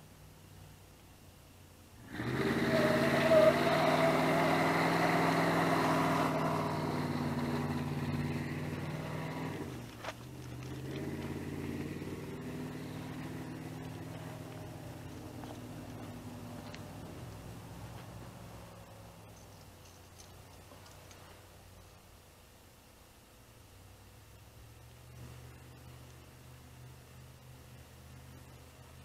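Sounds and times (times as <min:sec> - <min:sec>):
vehicle engine running: 0:00.0 - 0:22.6, 0:23.4 - 0:29.0.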